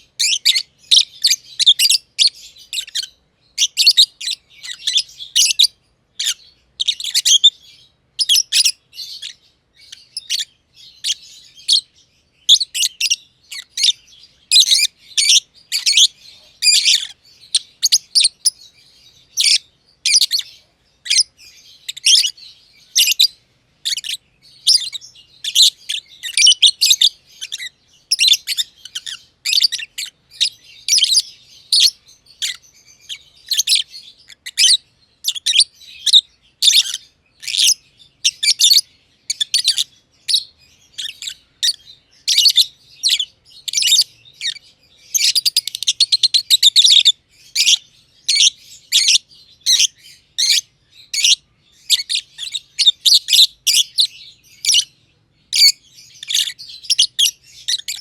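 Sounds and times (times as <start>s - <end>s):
lovebirds chirping: 0.0s - 58.0s.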